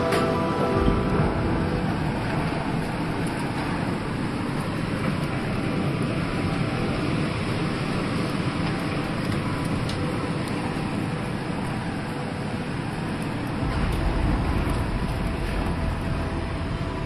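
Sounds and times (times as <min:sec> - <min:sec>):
heavy rain: 0:00.0 - 0:17.0
storm wind: 0:00.0 - 0:17.0.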